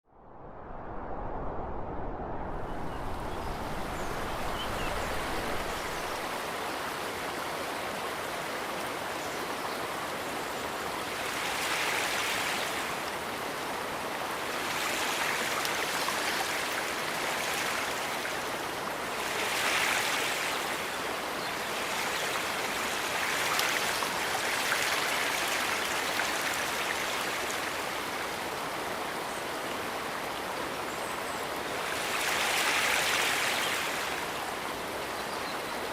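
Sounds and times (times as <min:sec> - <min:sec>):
rushing river water: 0:03.0 - 0:35.9.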